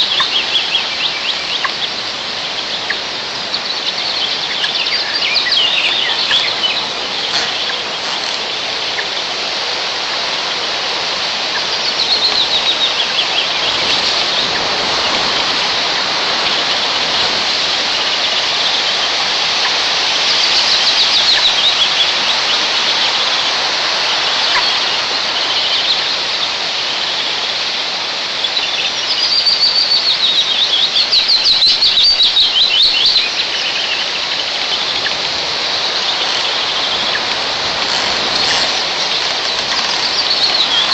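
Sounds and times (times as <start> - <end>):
strong wind through pines: 0.0 - 40.9.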